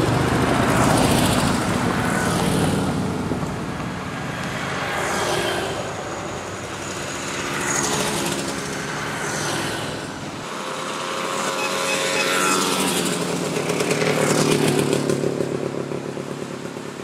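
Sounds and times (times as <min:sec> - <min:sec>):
motorcycles riding past: 0:00.0 - 0:17.0.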